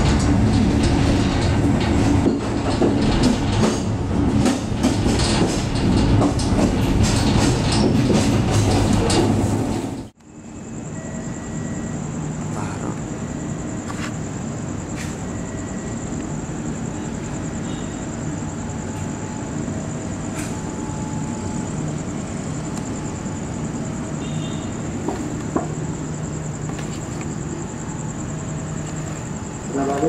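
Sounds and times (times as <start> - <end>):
diesel passenger train running: 0.0 - 30.0.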